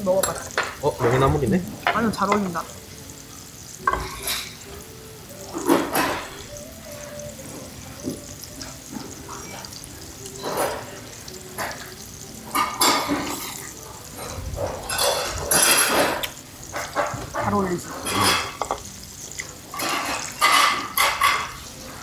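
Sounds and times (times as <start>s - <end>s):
griddle sizzling: 0.0s - 22.0s.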